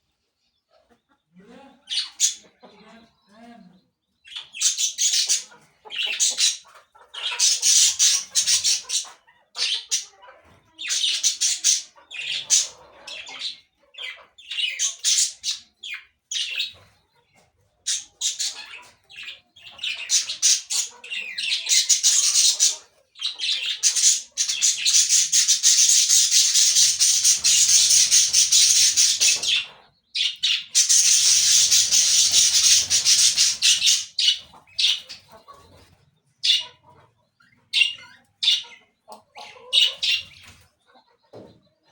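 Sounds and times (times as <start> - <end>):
parakeets chattering and squawking: 1.8 - 41.2.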